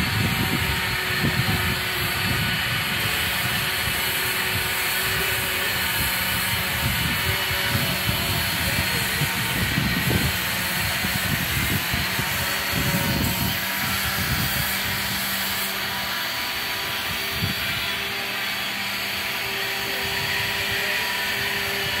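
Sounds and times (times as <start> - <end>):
hissing machinery drone: 0.0 - 22.0.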